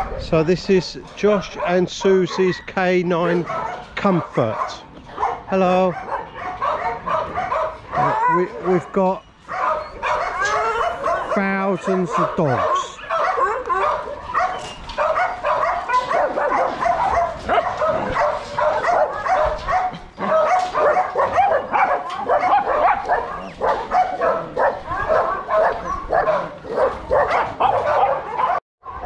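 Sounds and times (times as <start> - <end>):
many dogs barking and yelping: 0.0 - 29.0.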